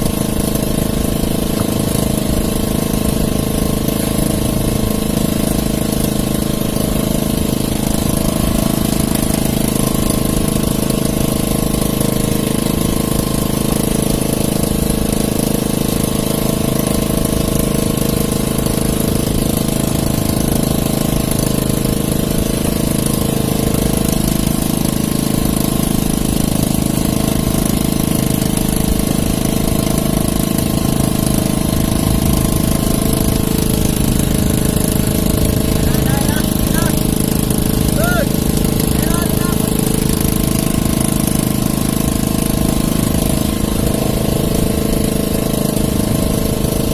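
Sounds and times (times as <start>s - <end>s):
small engine running: 0.0s - 46.9s.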